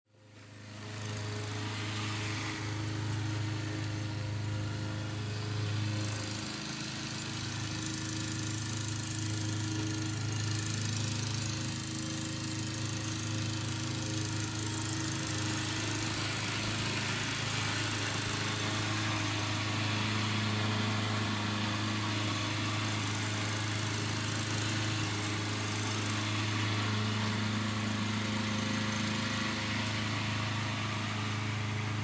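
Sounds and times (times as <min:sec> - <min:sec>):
lawn mower engine running: 0:00.1 - 0:32.0.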